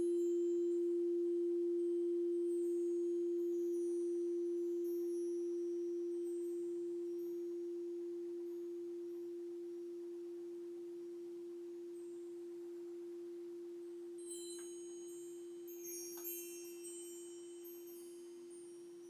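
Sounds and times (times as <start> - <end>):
crystal singing bowl tone: 0.0 - 19.0.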